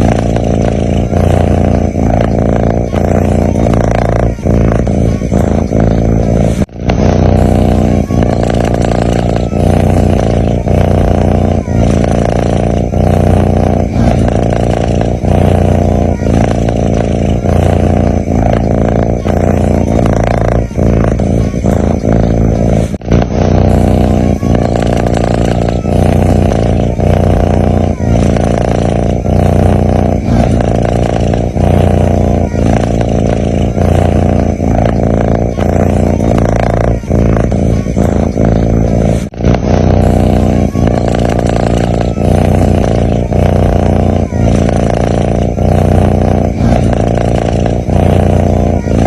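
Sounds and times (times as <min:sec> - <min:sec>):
kitten snoring: 0:00.0 - 0:49.0.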